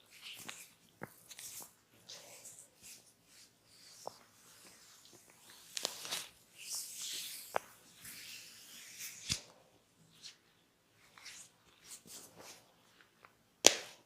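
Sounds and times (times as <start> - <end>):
hands rubbing and scratching head: 0.0 - 14.0.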